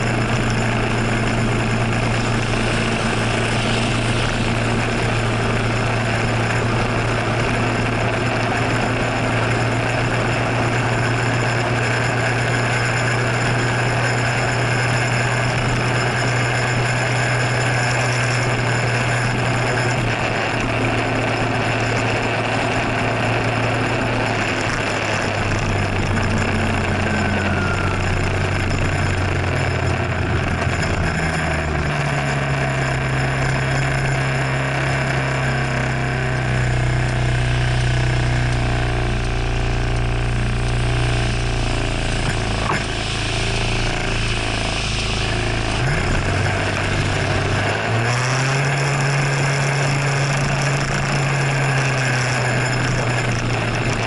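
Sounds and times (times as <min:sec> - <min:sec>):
scooter engine running: 0:00.0 - 0:54.0
wet road noise: 0:00.0 - 0:54.0.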